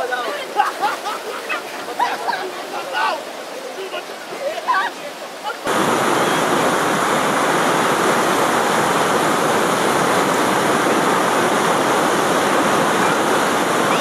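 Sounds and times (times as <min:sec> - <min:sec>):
whitewater rapids roaring: 0:00.0 - 0:14.0.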